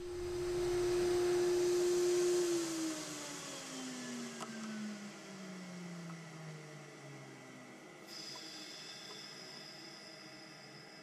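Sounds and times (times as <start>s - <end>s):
vacuum pump winding down: 0.0s - 10.1s.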